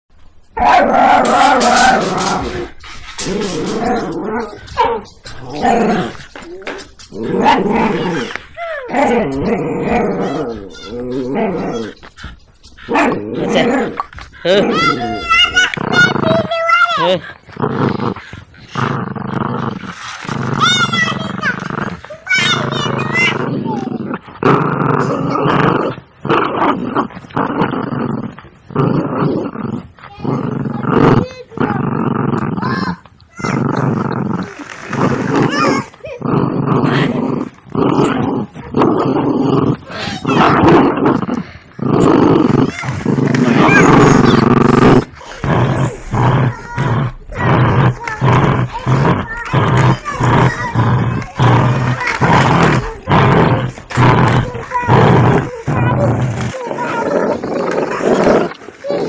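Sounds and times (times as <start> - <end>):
dog growling in play: 0.5 - 59.0.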